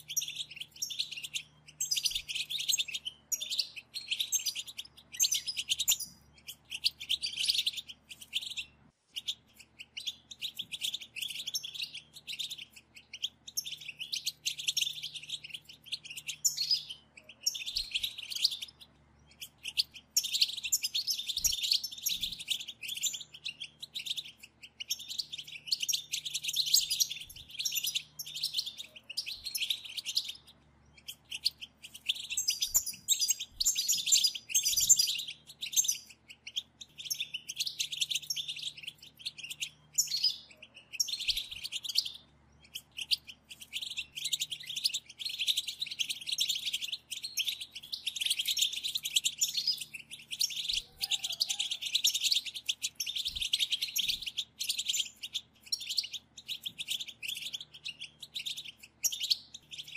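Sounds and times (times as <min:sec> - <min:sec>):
goldfinches twittering: 0:00.0 - 0:59.9.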